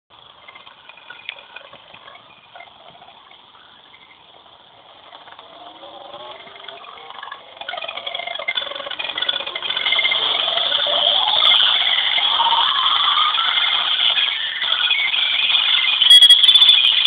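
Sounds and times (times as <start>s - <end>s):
recording hiss: 0.1s - 17.0s.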